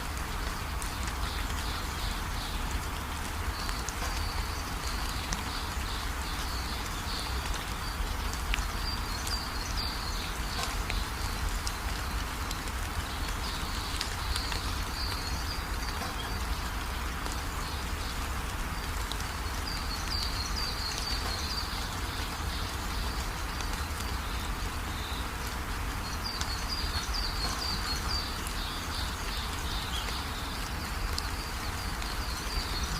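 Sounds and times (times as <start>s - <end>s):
raindrop ticks: 0.0s - 32.9s
steady rainfall hiss: 0.0s - 32.9s.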